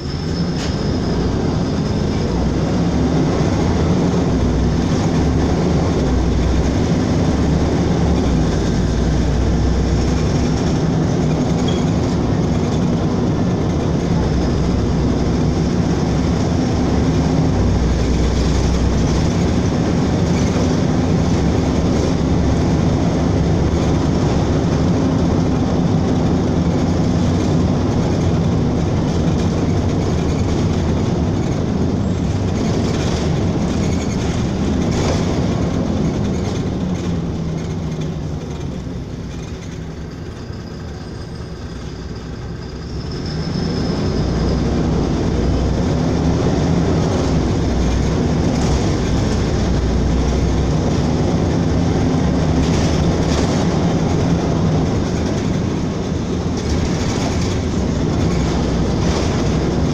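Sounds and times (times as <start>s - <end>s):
bus diesel engine hum: 0.0s - 59.9s
road and body noise: 0.0s - 59.9s.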